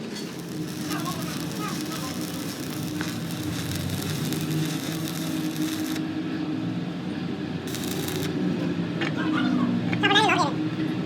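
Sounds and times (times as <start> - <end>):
machine droning: 0.0 - 9.0.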